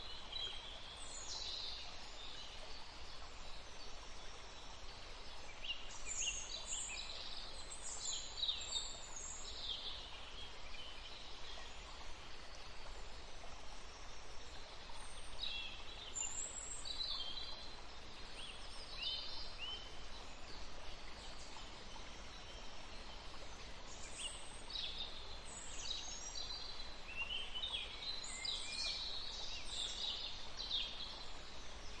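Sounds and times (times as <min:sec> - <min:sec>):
steady background hiss: 0:00.0 - 0:32.0.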